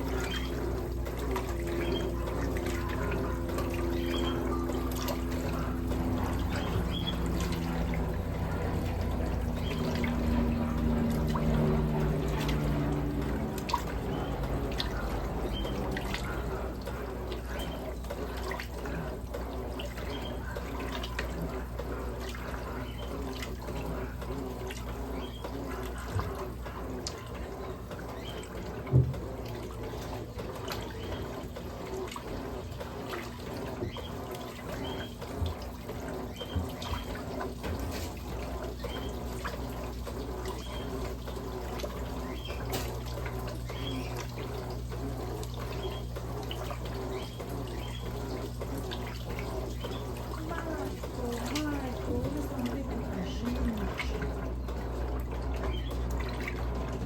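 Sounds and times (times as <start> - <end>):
agitator swishing water: 0.0 - 57.0
washing machine motor humming: 0.0 - 57.0.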